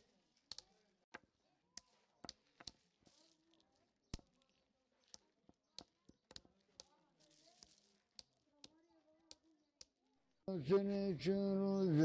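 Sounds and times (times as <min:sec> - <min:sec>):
faint sharp clicks and taps: 0:00.0 - 0:10.0.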